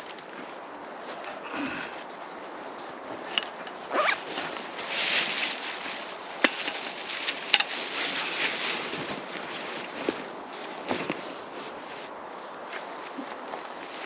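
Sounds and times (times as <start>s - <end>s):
backpack and gear rustling: 0.0s - 14.0s.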